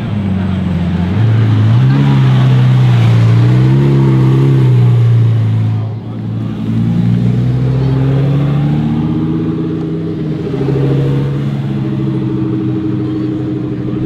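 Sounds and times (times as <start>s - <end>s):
car engine running at low revs: 0.0s - 14.0s.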